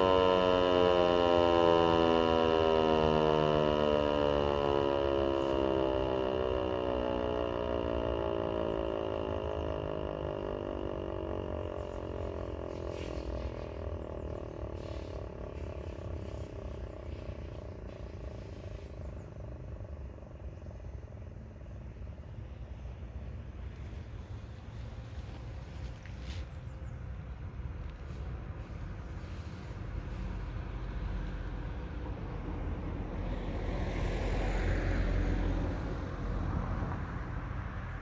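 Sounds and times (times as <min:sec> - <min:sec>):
electric motor siren winding down: 0:00.0 - 0:26.4, 0:27.8 - 0:38.0.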